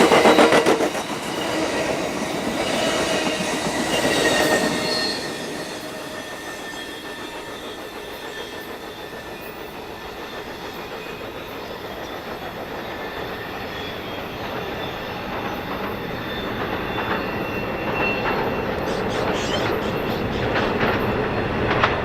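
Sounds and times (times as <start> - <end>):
high wheel squeal: 0.0 - 21.8
train wheels rumbling on rails: 0.0 - 22.0.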